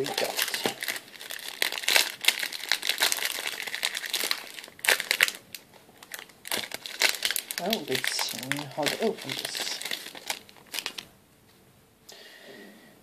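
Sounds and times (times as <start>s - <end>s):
plastic wrapper crinkling: 0.0s - 11.1s.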